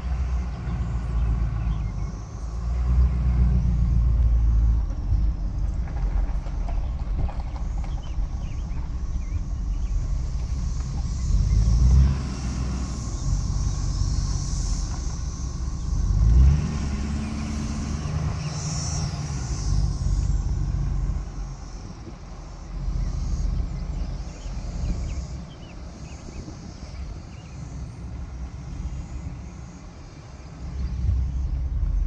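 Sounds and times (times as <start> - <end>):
truck engine and road rumble: 0.0 - 32.0.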